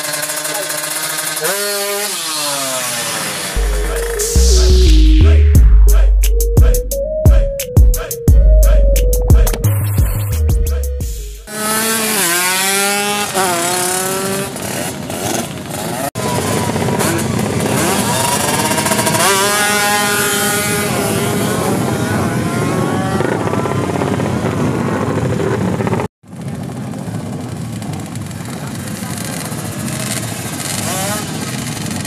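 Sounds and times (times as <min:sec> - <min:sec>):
motorcycle engines revving: 0:00.0 - 0:06.0, 0:11.4 - 0:32.0.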